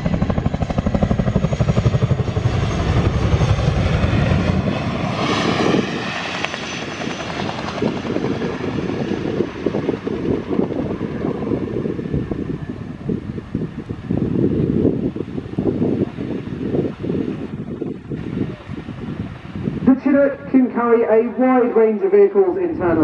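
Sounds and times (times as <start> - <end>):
helicopter rotors thudding: 0.0 - 23.0
turbine engine noise: 0.0 - 23.0.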